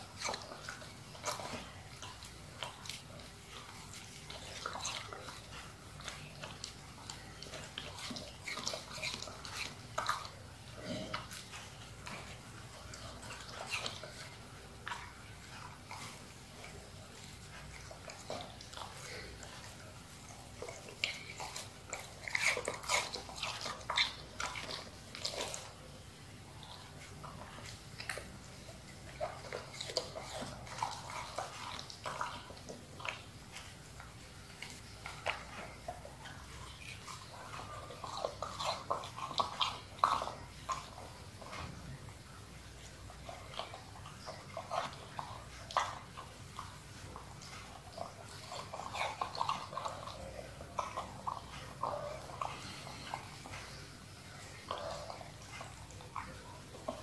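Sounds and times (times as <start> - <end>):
dog chewing wetly: 0.0 - 57.0.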